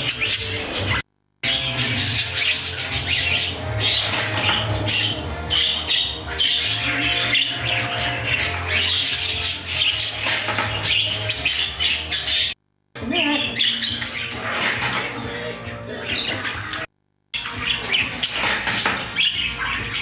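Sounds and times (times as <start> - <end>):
budgerigars chattering and squawking: 0.0 - 12.6, 13.4 - 20.0
music: 0.0 - 20.0.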